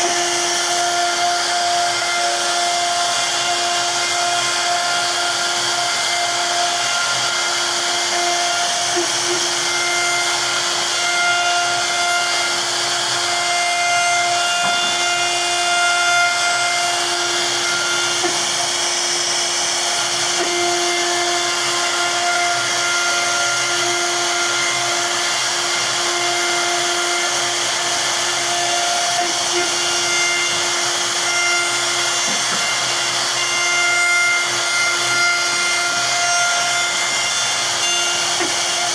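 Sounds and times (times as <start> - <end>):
hiss of wood cutting: 0.0 - 38.9
router spindle whine: 0.0 - 38.9.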